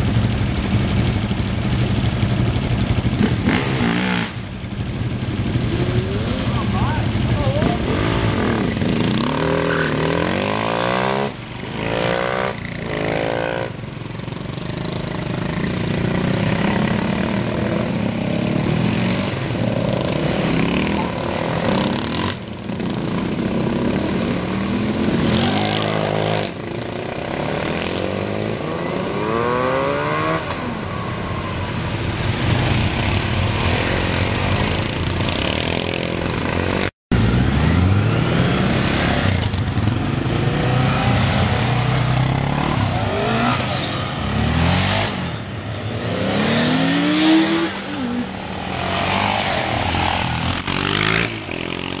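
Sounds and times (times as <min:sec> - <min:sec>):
quad bike engines revving past: 0:00.0 - 0:52.0.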